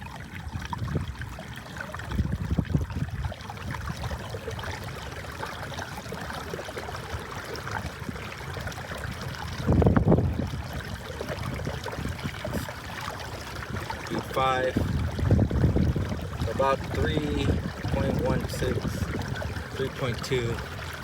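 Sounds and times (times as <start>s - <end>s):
water gurgling along a hull: 0.0s - 21.0s.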